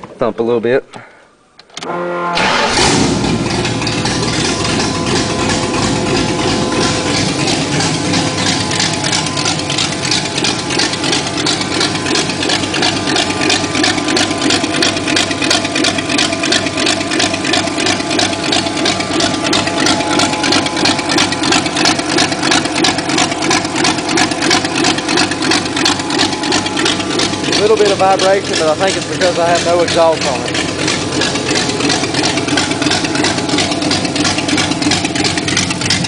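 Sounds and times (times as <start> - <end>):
car engine idling unmuffled: 2.8 - 36.0.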